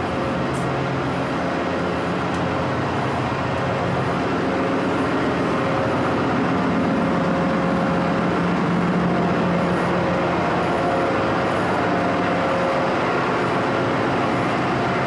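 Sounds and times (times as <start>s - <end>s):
ship machinery drone: 0.0s - 15.0s.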